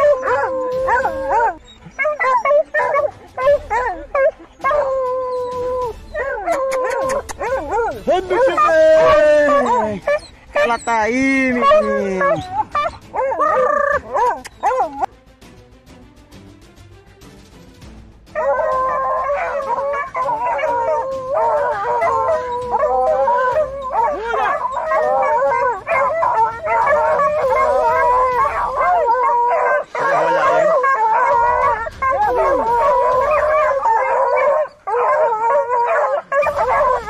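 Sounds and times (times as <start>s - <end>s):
hounds baying and howling: 0.0s - 15.1s, 18.3s - 37.0s.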